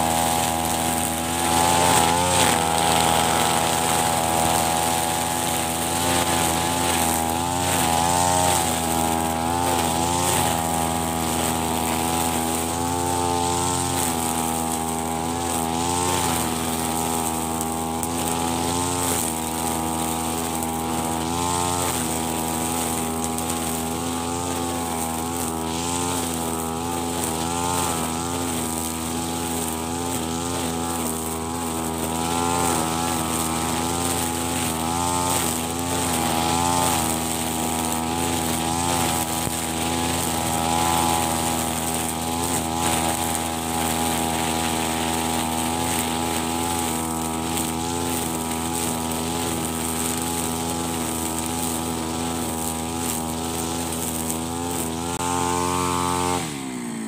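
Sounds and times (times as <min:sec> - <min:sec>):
brush cutter engine cutting grass: 0:00.0 - 0:57.0.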